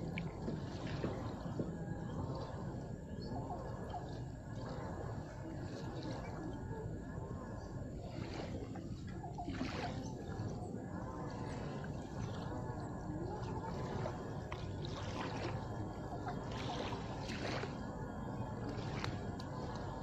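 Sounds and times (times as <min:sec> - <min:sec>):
small water splashes: 0:00.0 - 0:20.0
steady low rumble: 0:00.0 - 0:20.0.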